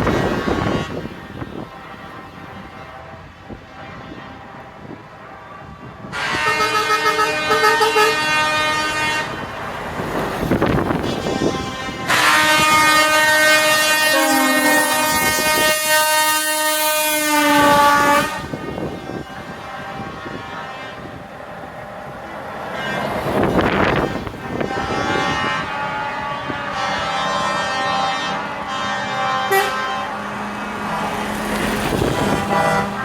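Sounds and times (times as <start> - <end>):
truck passing: 0.0 - 33.0
truck air horn chord: 0.1 - 9.6, 10.5 - 21.4, 22.6 - 31.1, 31.9 - 33.0.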